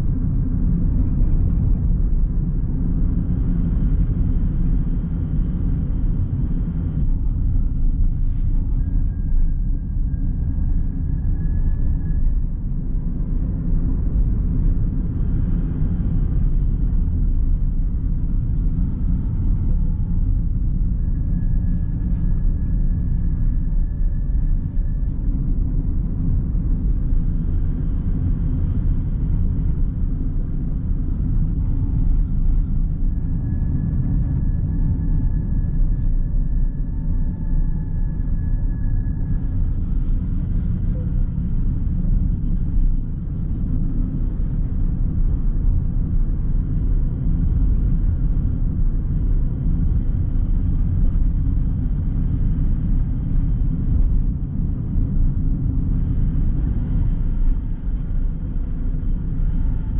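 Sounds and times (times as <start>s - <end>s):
car road and engine rumble: 0.0s - 59.9s
faint high whine: 0.0s - 59.9s.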